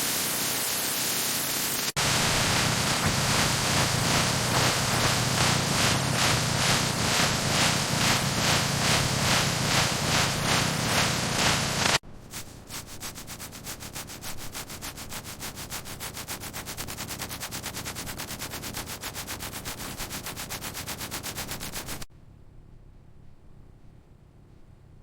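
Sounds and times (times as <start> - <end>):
hand sanding strokes: 2.0 - 22.1.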